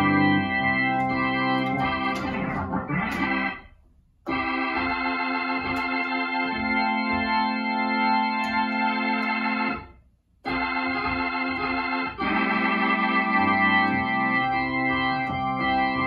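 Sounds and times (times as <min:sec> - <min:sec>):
organ playing held chords: 0:00.0 - 0:16.0.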